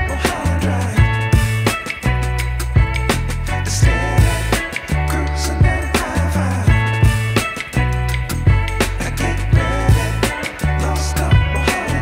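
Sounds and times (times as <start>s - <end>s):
music with drums bass and guitar: 0.0s - 12.0s.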